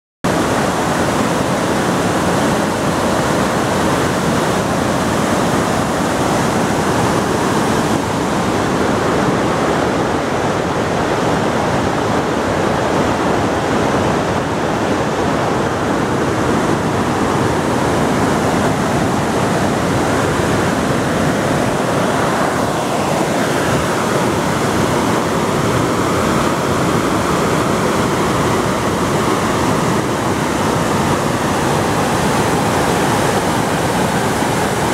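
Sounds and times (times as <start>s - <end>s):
creek rushing over boulders: 0.3s - 34.9s.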